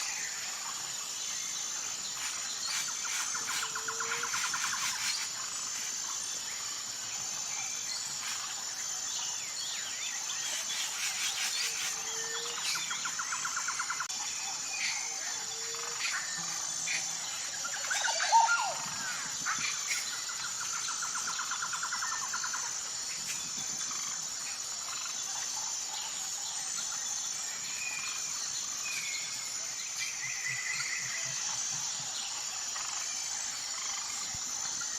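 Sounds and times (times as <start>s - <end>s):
wild birds singing and calling: 0.0s - 34.9s.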